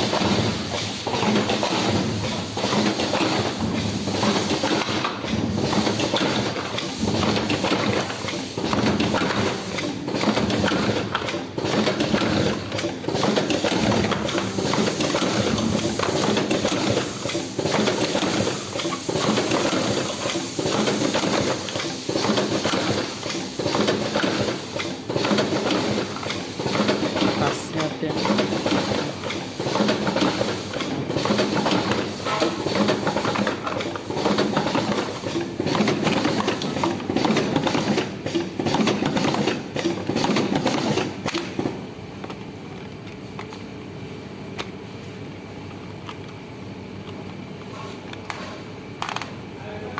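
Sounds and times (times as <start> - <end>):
machine clattering: 0.0 - 41.8.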